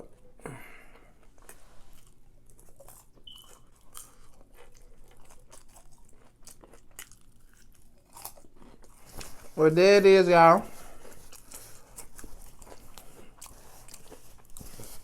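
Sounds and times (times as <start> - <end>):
person chewing crunchy food: 0.0 - 9.6, 10.7 - 15.0.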